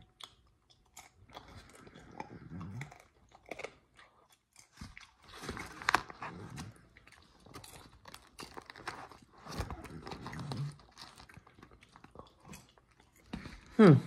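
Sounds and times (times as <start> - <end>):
chewing and crunching popcorn: 0.0 - 14.0.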